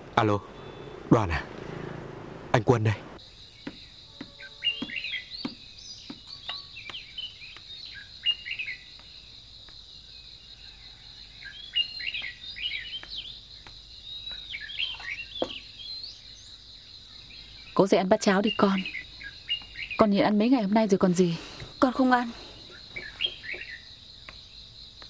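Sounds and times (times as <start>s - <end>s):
small birds chirping: 2.7s - 25.0s
high-pitched insect drone: 3.2s - 25.0s.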